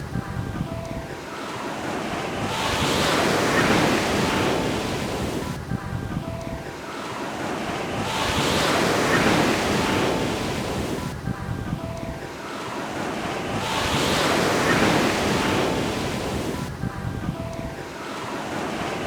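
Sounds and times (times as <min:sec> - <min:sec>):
ocean surf washing onto beach: 0:00.0 - 0:19.0.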